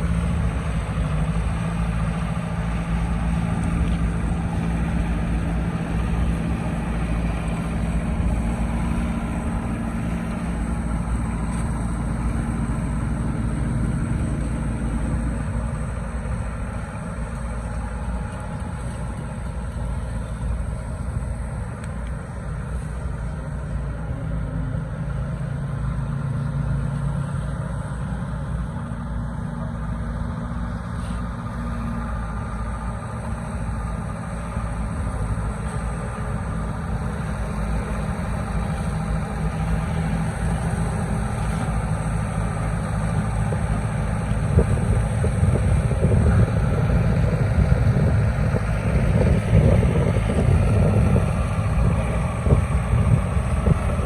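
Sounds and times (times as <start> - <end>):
machine engine humming: 0.0 - 54.0.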